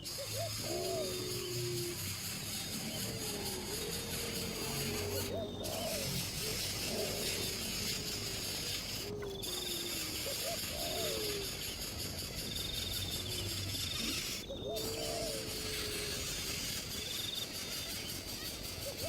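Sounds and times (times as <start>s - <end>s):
bird whistled hoots: 0.0s - 19.0s
high bird trills: 0.0s - 19.0s
insect buzz: 0.0s - 19.0s.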